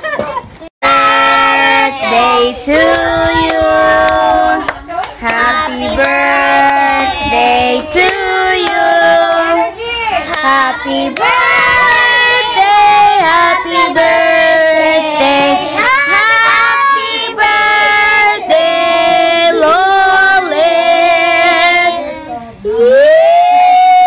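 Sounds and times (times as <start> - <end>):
children and women singing: 0.8 - 22.5.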